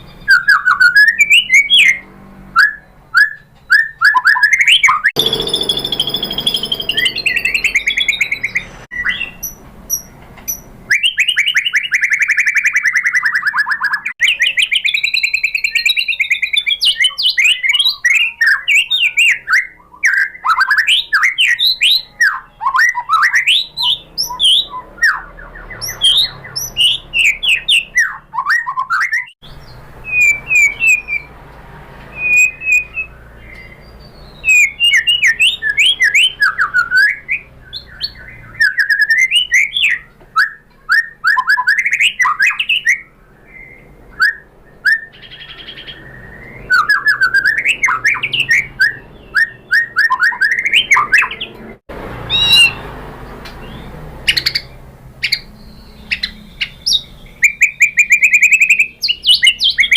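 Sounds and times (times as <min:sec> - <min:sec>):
songbird singing trills: 0:00.0 - 0:31.3, 0:32.1 - 0:59.9.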